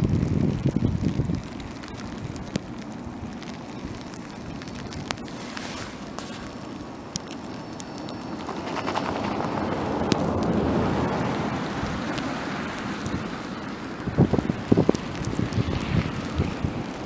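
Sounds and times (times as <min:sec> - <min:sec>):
wind buffeting microphone: 0:00.0 - 0:17.0
wind gusting in a snowstorm: 0:00.0 - 0:17.0.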